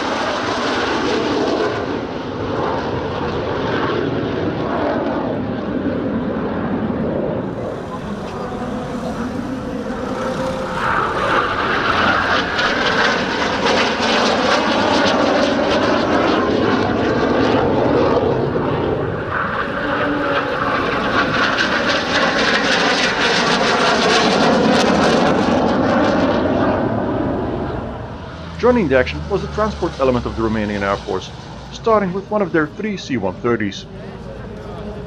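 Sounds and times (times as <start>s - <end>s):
jet engines flying past: 0.0s - 35.0s.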